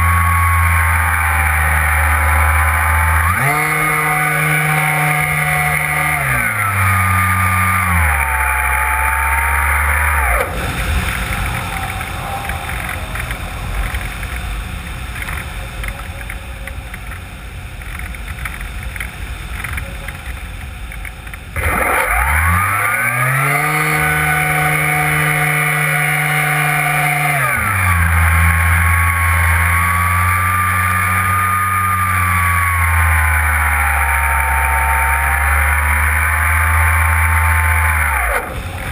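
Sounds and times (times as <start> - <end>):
electric motor and propeller whine: 0.0 - 14.7, 21.6 - 38.9.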